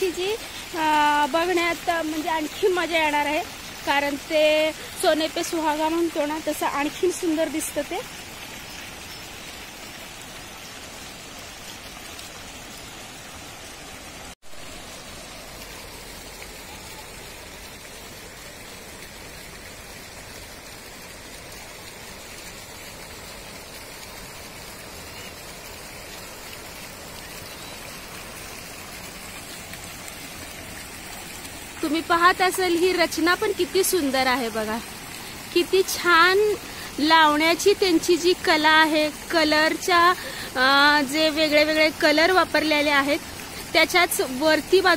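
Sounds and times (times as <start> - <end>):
fountain splashing into pool: 0.0 - 44.9.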